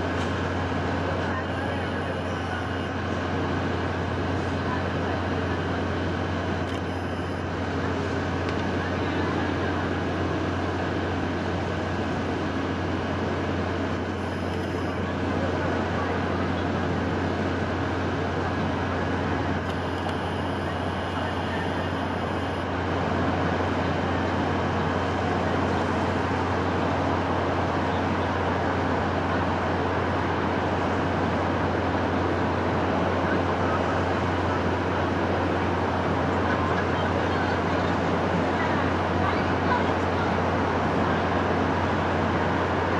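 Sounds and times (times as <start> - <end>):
constant low hum: 0.0 - 42.9.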